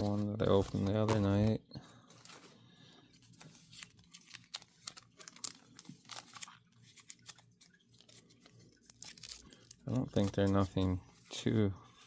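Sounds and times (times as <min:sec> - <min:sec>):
cards crinkling and clicking: 0:00.0 - 0:11.3.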